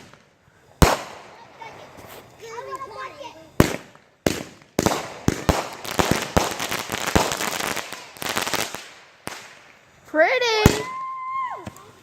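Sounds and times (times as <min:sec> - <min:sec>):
firework bangs and crackling: 0:00.0 - 0:12.0.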